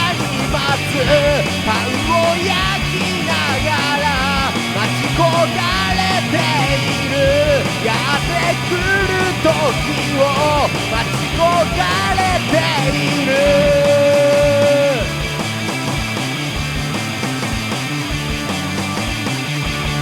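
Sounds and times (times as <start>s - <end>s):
electric guitar bending in pitch: 0.0s - 18.5s
bass: 0.0s - 20.0s
drums: 0.0s - 20.0s.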